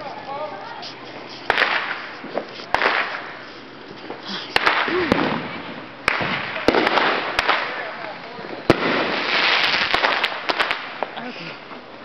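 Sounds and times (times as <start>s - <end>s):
fireworks popping: 0.0s - 12.0s
firework hiss: 0.8s - 11.7s.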